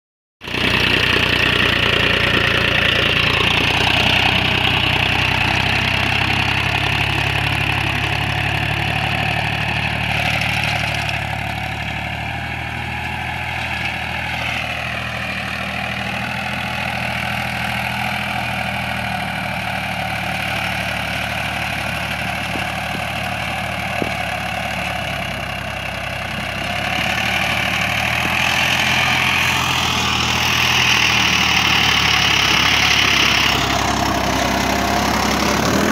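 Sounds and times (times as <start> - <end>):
tractor diesel engine running: 0.4 - 35.9.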